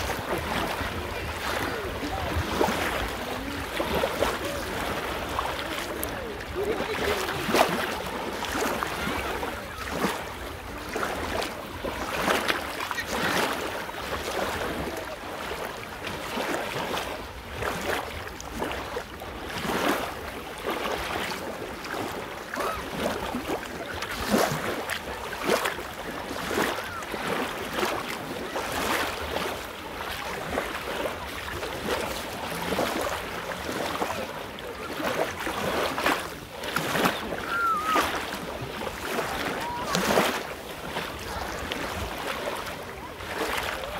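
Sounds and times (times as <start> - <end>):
waves washing over shingle: 0.0 - 43.9.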